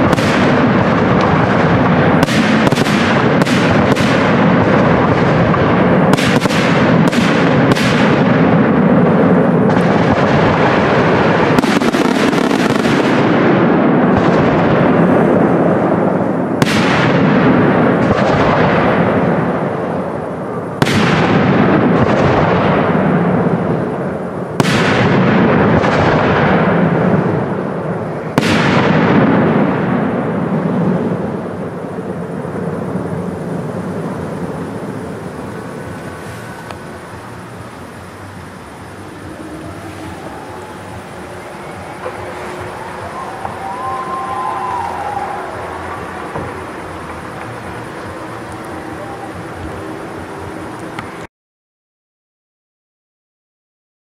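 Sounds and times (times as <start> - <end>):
firework bangs: 0.0 - 51.3
rumble of firework bursts: 0.0 - 51.3.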